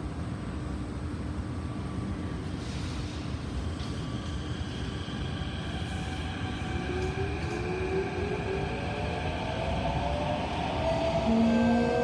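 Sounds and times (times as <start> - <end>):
train rumble: 1.9 - 12.0.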